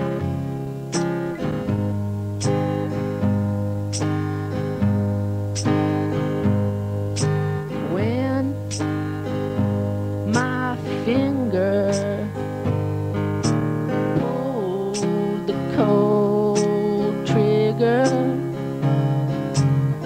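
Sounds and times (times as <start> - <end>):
held low notes: 0.0 - 18.4
strummed chords: 0.0 - 20.0.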